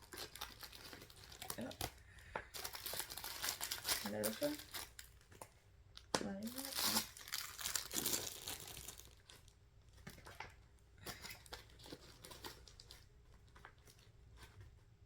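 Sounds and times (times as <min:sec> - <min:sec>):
plastic packaging crinkling: 0:00.0 - 0:10.4, 0:11.0 - 0:14.1.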